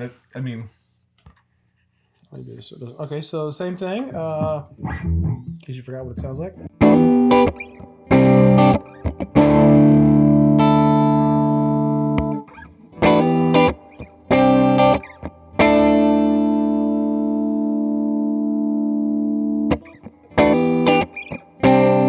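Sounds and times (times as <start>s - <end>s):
electric guitar chords: 4.0s - 22.0s.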